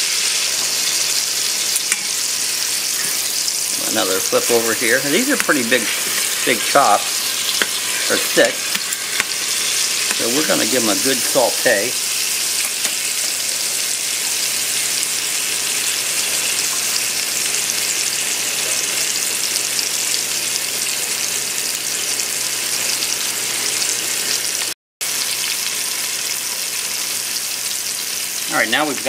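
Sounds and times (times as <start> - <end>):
pork chops sizzling in butter: 0.0 - 29.0.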